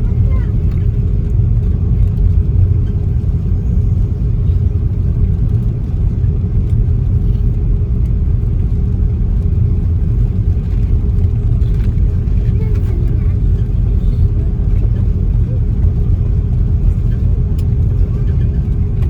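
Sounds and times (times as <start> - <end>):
aircraft cabin engine rumble: 0.0 - 19.0.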